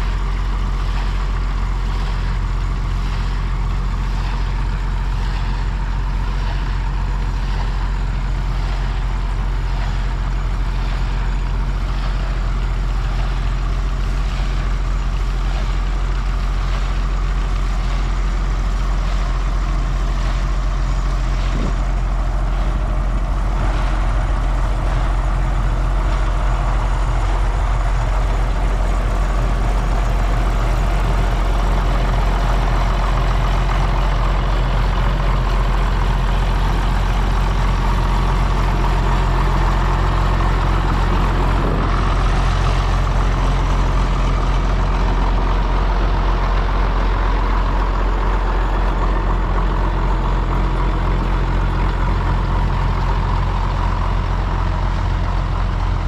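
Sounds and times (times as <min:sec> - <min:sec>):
tractor diesel engine droning: 0:00.0 - 0:56.0.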